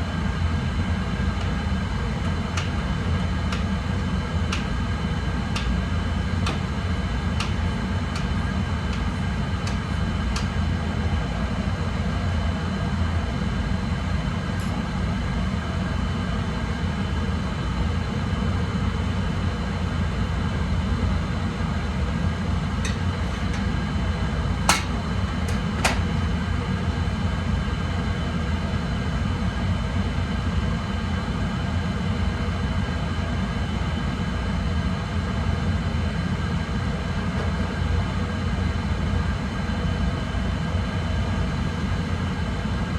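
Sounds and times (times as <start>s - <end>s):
oil burner roaring: 0.0s - 42.9s.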